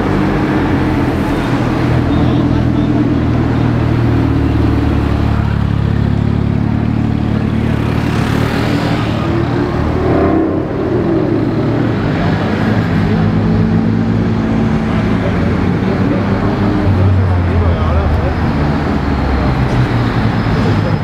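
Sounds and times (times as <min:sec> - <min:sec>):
traffic engines: 0:00.0 - 0:21.0.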